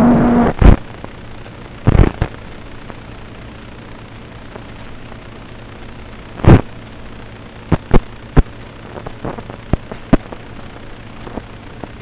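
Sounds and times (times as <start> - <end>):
steady hiss and hum: 0.0 - 12.0.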